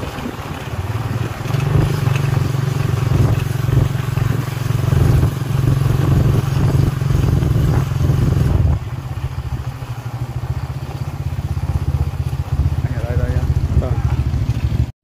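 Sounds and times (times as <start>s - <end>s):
motorbike engine running: 0.0s - 14.9s.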